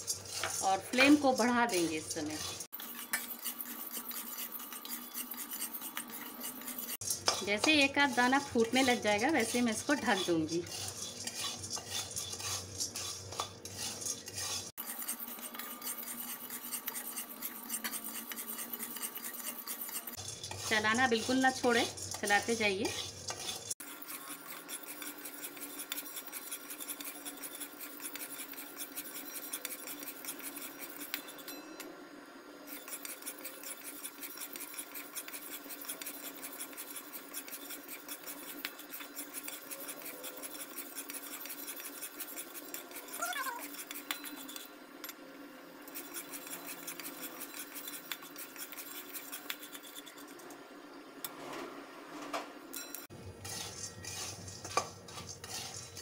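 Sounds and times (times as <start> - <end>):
spatula scraping kernels in wok: 0.0 - 31.8, 32.6 - 45.2, 45.8 - 50.6, 52.8 - 56.0.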